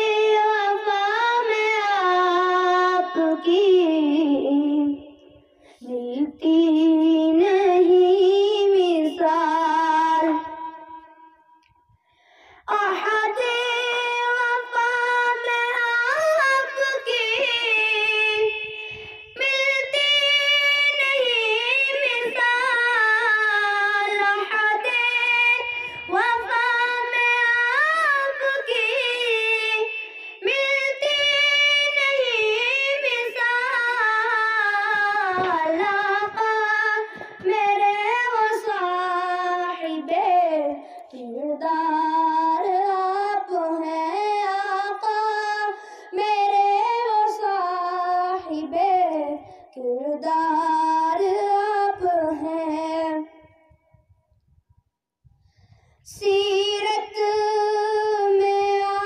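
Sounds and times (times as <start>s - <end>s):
boy singing unaccompanied: 0.0s - 5.2s, 5.8s - 10.8s, 12.7s - 53.4s, 56.1s - 59.0s.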